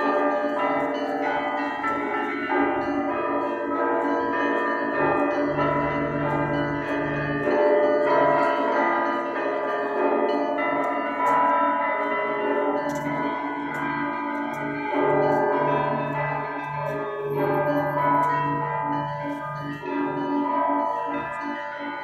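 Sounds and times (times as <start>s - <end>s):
church bells ringing: 0.0s - 22.0s
deep bell tone: 0.0s - 22.0s.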